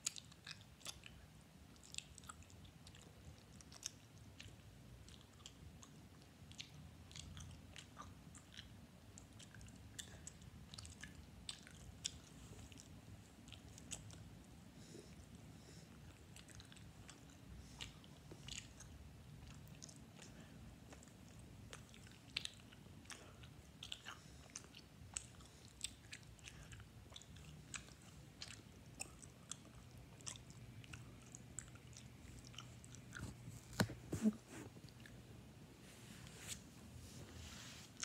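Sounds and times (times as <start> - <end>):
person chewing with mouth clicks: 0.0 - 35.2.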